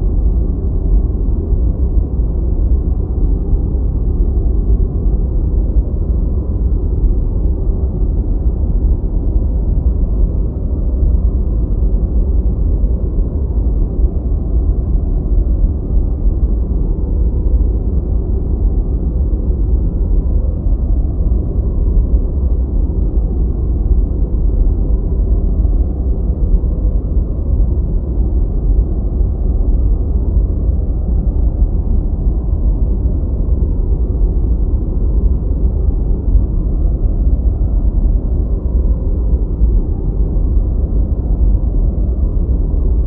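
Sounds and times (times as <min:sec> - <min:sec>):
deep white noise: 0:00.0 - 0:43.0.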